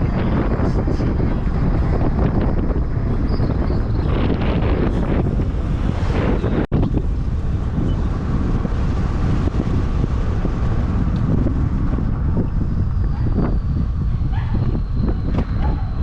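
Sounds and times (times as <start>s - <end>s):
vehicle low rumble: 0.0s - 16.0s
wind buffeting microphone: 0.0s - 16.0s.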